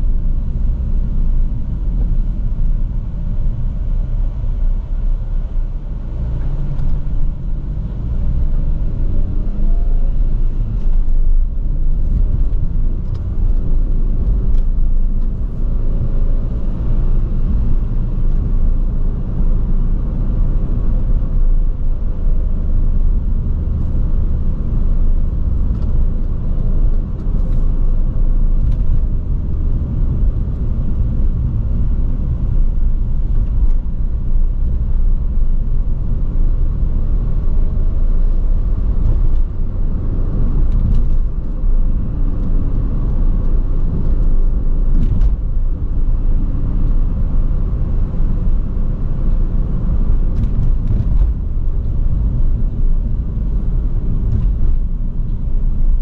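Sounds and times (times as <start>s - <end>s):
sports car engine rumble: 0.0s - 56.0s
tyre and road noise: 0.0s - 56.0s.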